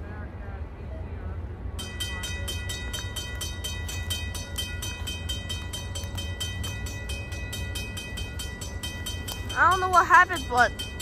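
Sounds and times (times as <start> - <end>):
low steady rumble: 0.0 - 11.0
level-crossing bell ringing: 1.8 - 11.0.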